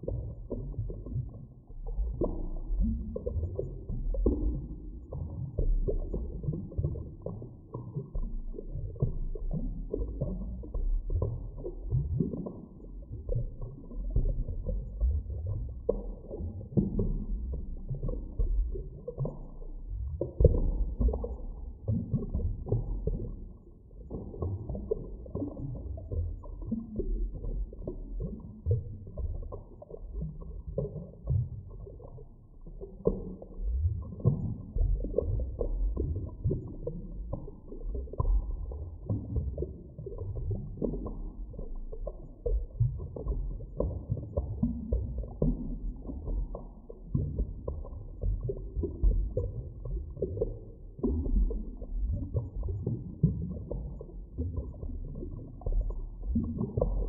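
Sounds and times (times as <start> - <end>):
underwater rumbling and gurgling: 0.0 - 57.0.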